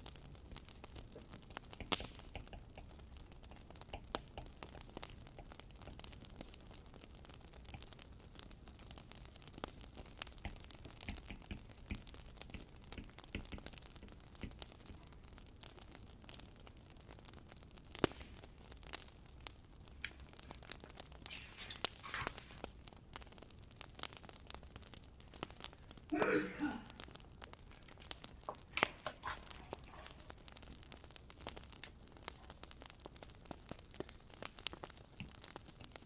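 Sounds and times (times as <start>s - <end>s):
firewood crackling and popping: 0.0s - 36.0s.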